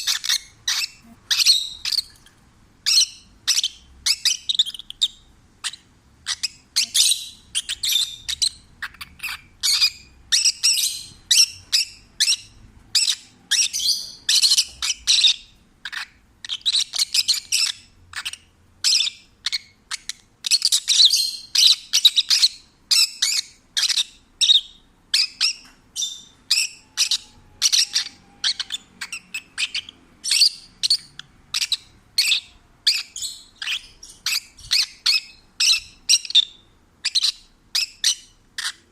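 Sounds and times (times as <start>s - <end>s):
lovebird chirping and squawking: 0.0s - 38.9s.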